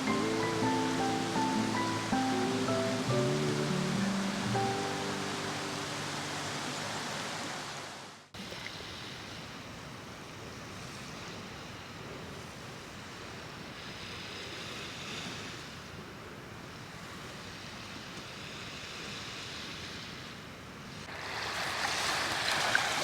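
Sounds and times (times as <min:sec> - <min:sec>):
waves washing onto shore: 0:00.0 - 0:23.0.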